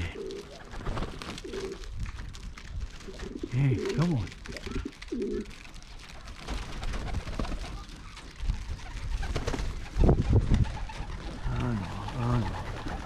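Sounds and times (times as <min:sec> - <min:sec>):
pigeons cooing: 0:00.0 - 0:01.9, 0:03.0 - 0:13.0.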